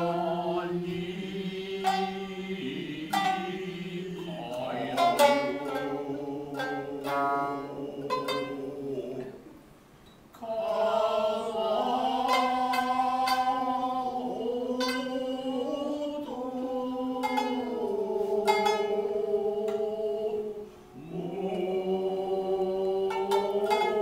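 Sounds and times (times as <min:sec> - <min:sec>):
plucked shamisen notes: 0:00.0 - 0:09.5, 0:10.7 - 0:24.0
voices singing long notes: 0:00.0 - 0:09.6, 0:10.4 - 0:24.0.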